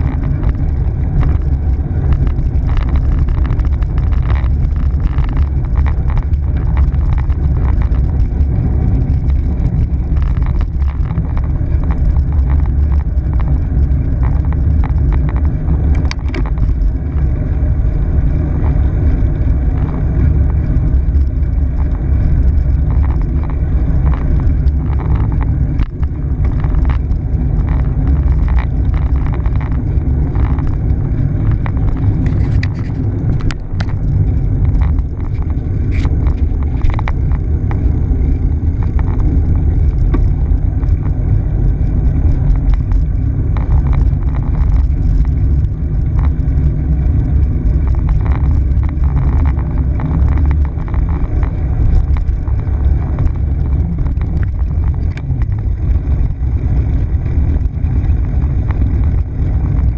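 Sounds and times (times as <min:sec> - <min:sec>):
bike clicks and rattles: 0:00.0 - 0:59.9
road rumble: 0:00.0 - 0:59.9
wind on microphone: 0:00.0 - 0:59.9.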